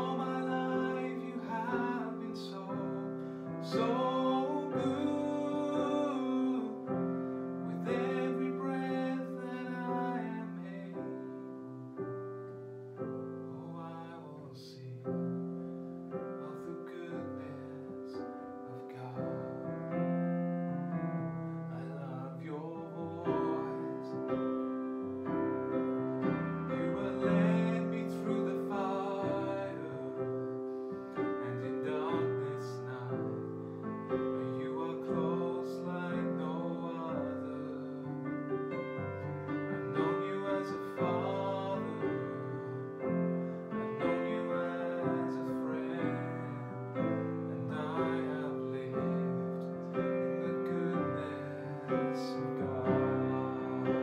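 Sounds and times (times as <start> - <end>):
man singing: 0.0 - 11.6, 13.5 - 15.5, 16.1 - 20.3, 21.2 - 54.0
digital piano playing chords: 0.0 - 54.0.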